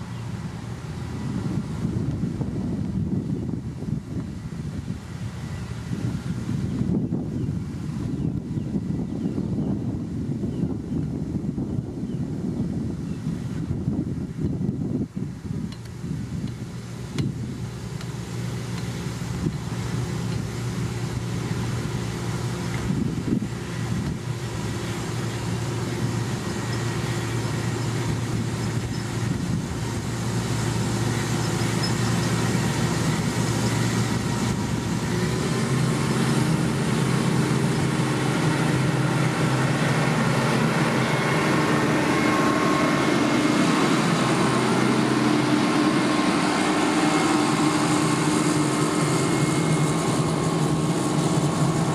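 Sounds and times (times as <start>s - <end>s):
heavy machine engine running: 0.0s - 51.9s.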